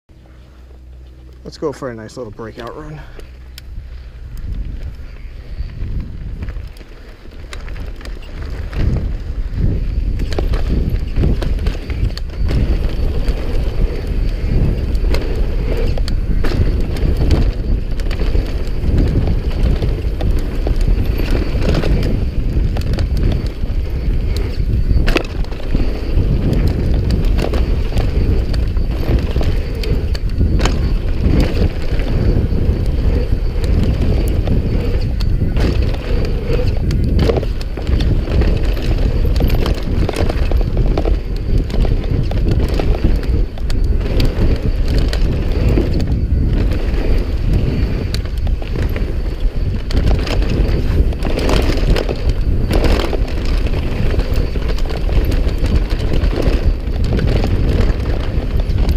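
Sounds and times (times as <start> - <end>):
bike rattling over bumps: 0.1 - 58.9
tyres rumbling on packed dirt: 0.1 - 58.9
wind on microphone: 0.1 - 58.9.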